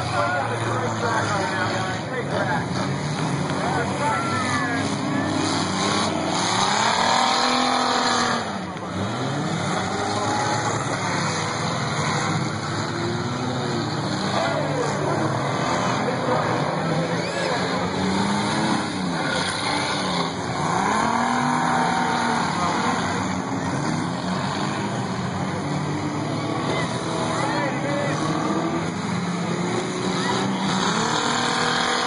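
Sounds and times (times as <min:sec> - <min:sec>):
race car engines revving past: 0:00.0 - 0:32.0.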